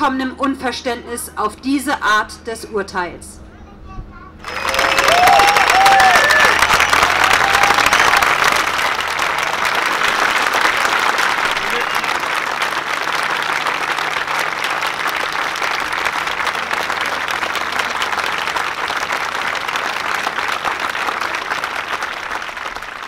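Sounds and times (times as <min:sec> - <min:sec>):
crowd applauding: 0:04.4 - 0:23.0.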